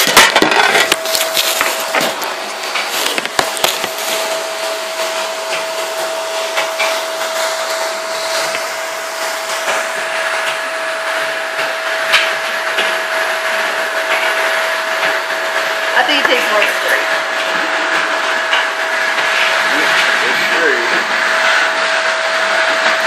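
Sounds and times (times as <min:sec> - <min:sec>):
electric motor whirring: 0:00.8 - 0:23.0.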